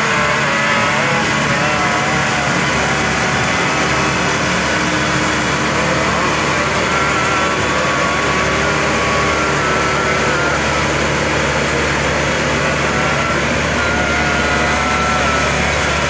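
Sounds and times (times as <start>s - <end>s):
diesel engine running under load: 0.0s - 16.0s
faint wavering whine: 0.0s - 16.0s.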